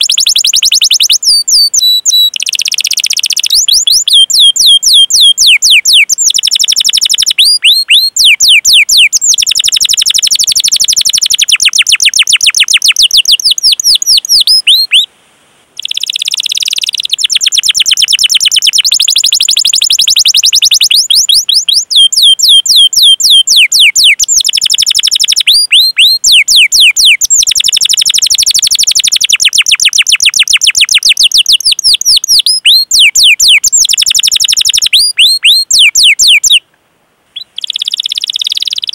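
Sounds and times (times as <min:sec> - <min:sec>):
canary singing: 0:00.0 - 0:15.1, 0:15.8 - 0:36.6, 0:37.4 - 0:38.9.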